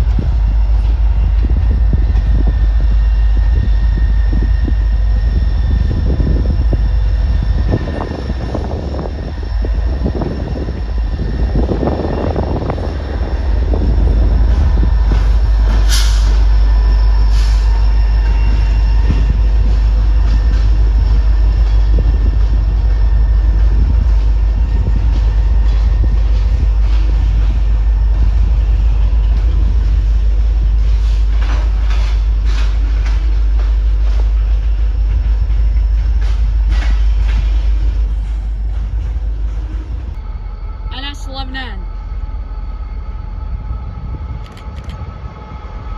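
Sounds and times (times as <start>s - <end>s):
freight train rumbling past: 0.0s - 45.9s.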